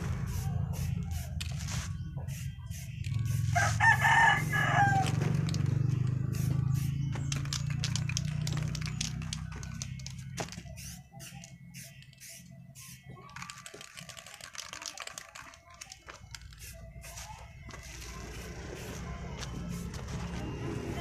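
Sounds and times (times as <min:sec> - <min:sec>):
spray paint can hissing: 0:00.2 - 0:03.8, 0:05.0 - 0:21.0.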